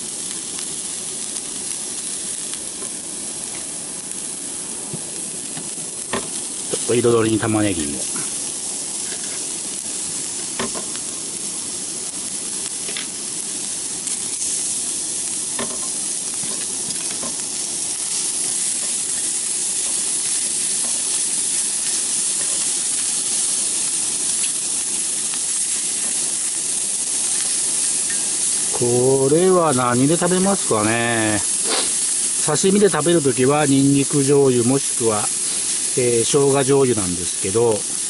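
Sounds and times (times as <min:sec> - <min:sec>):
food sizzling in a skillet: 0:00.0 - 0:38.0.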